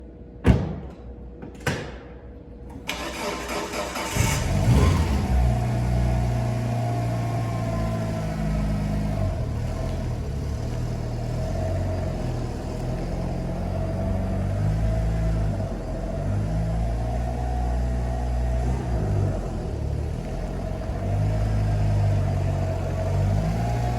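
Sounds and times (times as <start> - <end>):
car engine cranking and idling: 2.7 - 23.9.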